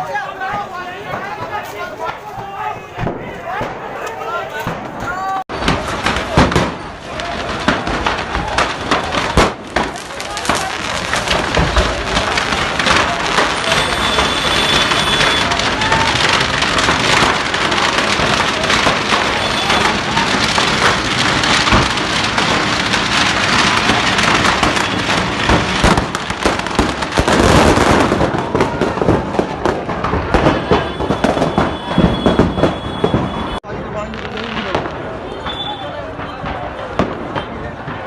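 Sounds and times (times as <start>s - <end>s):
firecrackers popping: 0.0s - 38.0s
voices: 0.0s - 38.0s.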